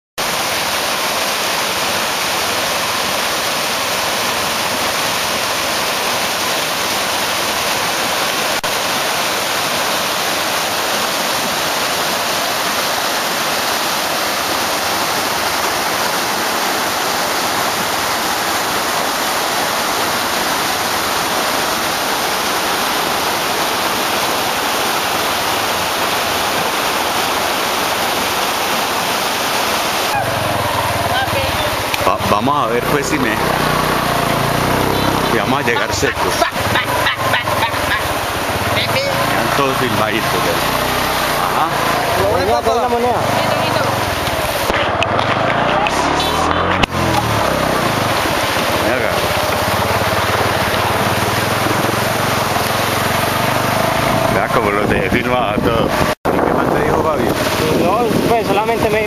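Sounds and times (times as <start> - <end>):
floodwater rushing: 0.2 - 59.0.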